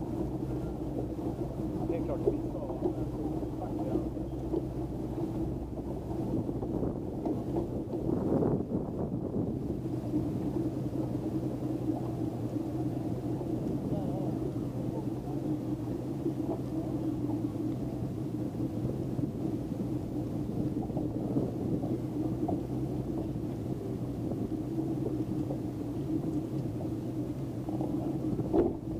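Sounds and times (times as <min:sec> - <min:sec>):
motorboat engine droning: 0:00.0 - 0:28.9.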